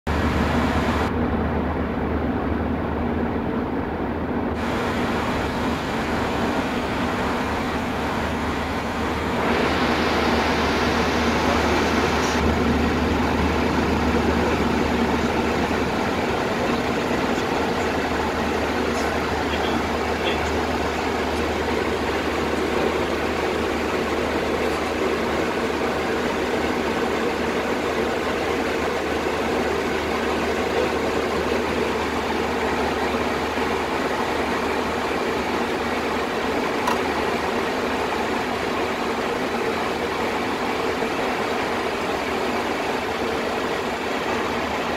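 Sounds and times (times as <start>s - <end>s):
aircraft cockpit hum and hiss: 0.1s - 44.9s.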